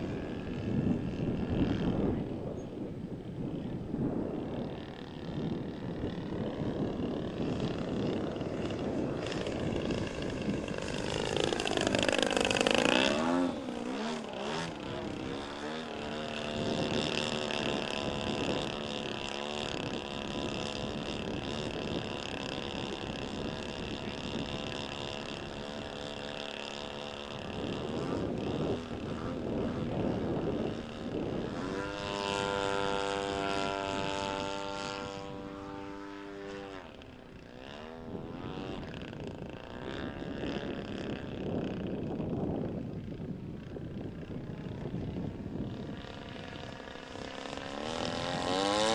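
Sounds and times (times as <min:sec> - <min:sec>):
model airplane motor and propeller: 0:00.0 - 0:48.9.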